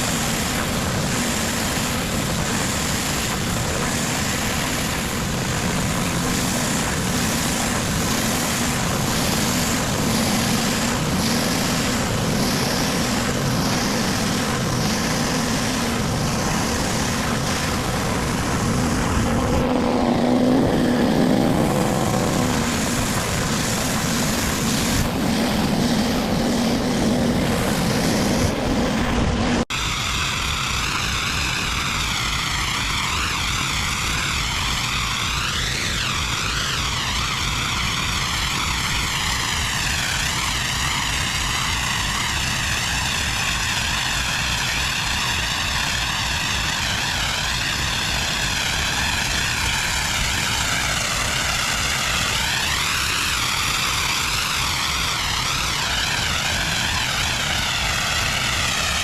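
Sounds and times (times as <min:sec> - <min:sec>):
high-pressure spray hissing: 0:00.0 - 0:59.0
pressure washer engine drone: 0:00.0 - 0:59.0.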